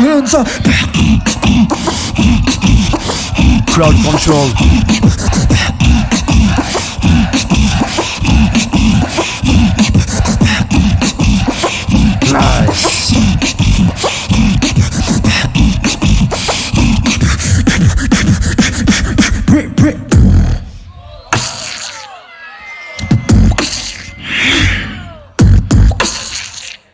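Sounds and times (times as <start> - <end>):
beatboxing into a microphone: 0.0 - 22.1, 23.0 - 24.7, 25.4 - 26.9.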